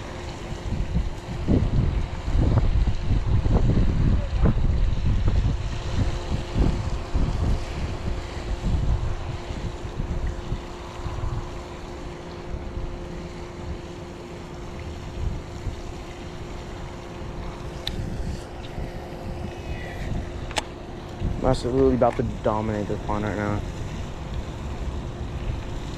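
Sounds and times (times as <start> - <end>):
faint steady hum: 0.0 - 25.9
wind buffeting microphone: 0.0 - 25.9.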